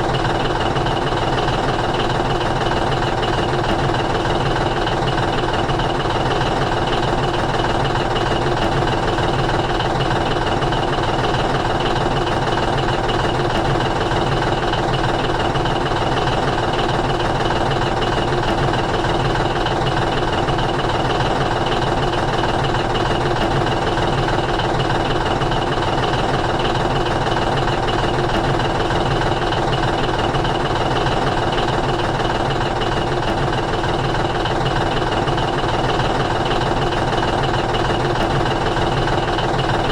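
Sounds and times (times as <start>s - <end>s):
steady engine running: 0.0s - 39.9s.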